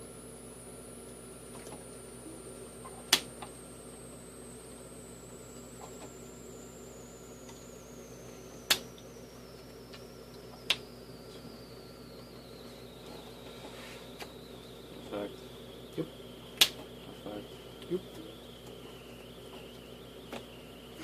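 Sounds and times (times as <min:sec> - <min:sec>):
faint high whine: 0:00.0 - 0:21.0
room hum: 0:00.0 - 0:21.0.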